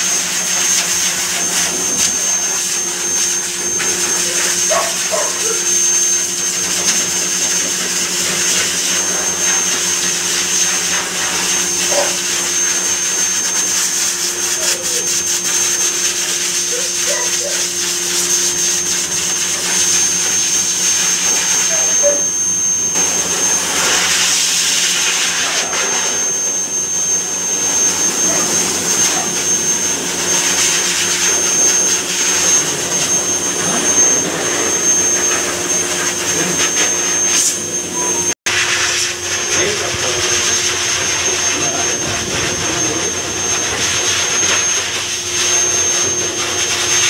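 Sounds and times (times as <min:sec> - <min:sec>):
blower dryer blasting air: 0:00.0 - 0:47.0
high whine: 0:00.0 - 0:47.0.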